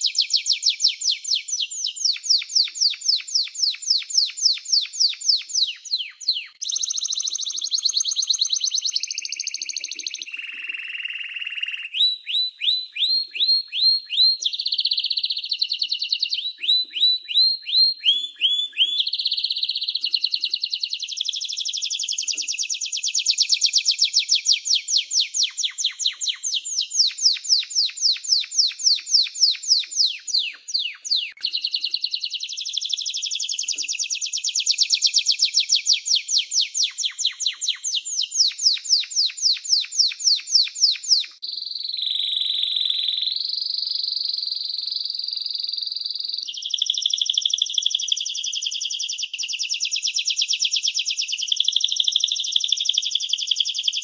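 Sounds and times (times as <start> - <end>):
canary singing: 0.0 - 52.0.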